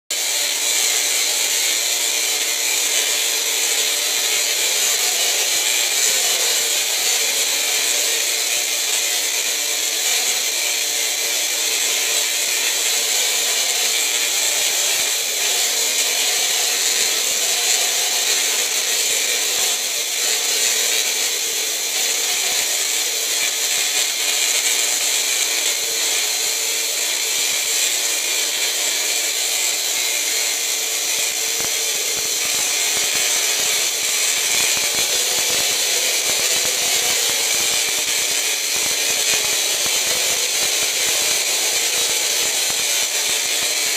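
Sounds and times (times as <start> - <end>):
tesla coil sparks buzzing: 0.2 - 43.9.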